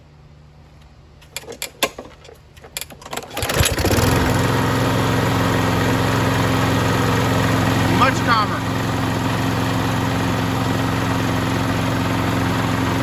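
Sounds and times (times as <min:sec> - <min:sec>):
lawn mower engine running: 0:00.7 - 0:13.0.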